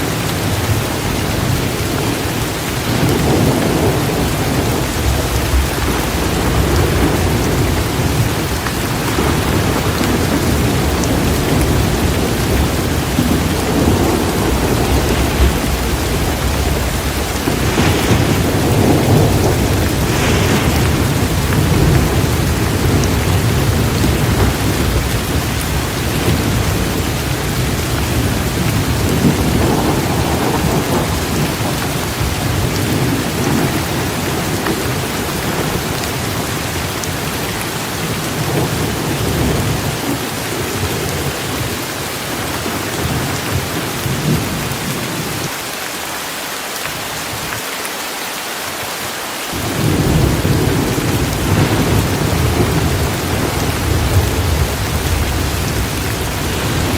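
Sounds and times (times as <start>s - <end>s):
rolling rumble of thunder: 0.0s - 45.5s, 49.5s - 56.9s
heavy rain falling: 0.0s - 56.9s.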